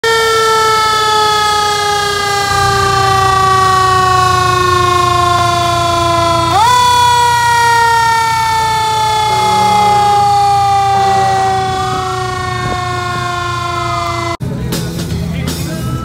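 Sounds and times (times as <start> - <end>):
fire truck siren: 0.0 - 14.4.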